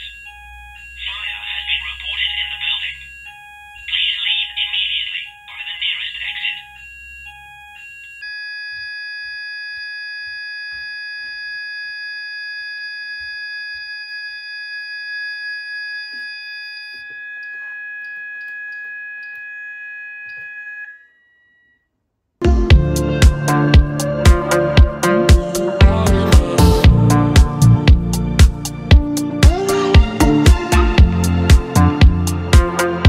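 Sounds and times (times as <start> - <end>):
fire alarm sounder pulsing: 0.0 - 21.2, 22.7 - 32.9
steady electronic alarm tone: 0.0 - 21.8, 22.7 - 33.0.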